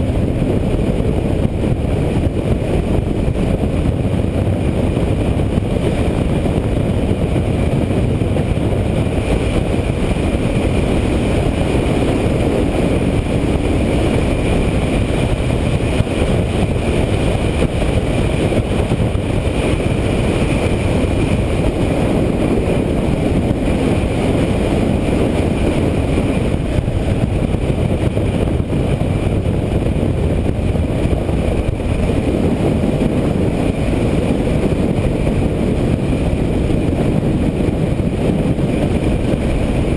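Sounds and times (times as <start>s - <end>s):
motorcycle engine cruising: 0.0s - 39.9s
wind buffeting camera: 0.0s - 39.9s.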